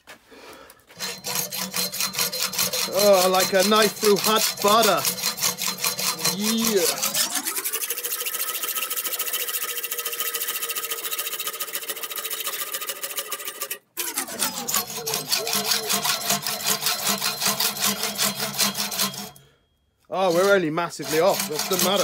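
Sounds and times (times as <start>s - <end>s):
hacksaw cutting metal bar: 0.9s - 19.5s, 20.2s - 22.0s.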